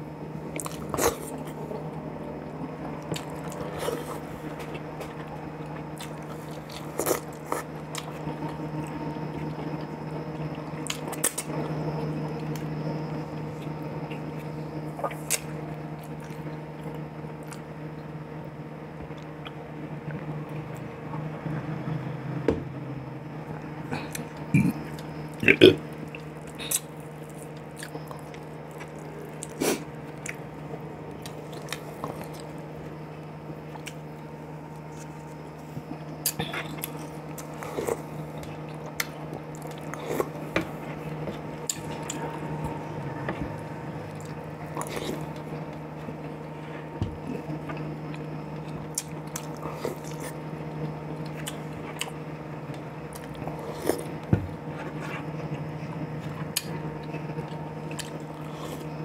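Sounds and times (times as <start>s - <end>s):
steady low hum: 0.0s - 59.0s
man chewing food: 0.4s - 18.1s, 23.5s - 59.0s.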